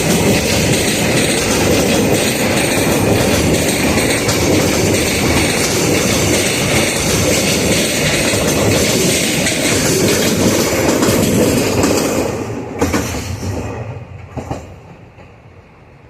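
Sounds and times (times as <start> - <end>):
freight train wagons rumbling: 0.0 - 15.7
clickety-clack of rail joints: 0.0 - 15.8.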